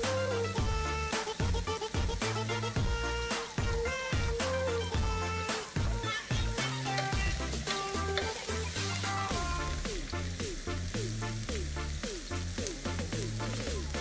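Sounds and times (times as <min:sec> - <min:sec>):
background music with bass beat: 0:00.0 - 0:14.0
meat sizzling on a grill: 0:00.0 - 0:14.0.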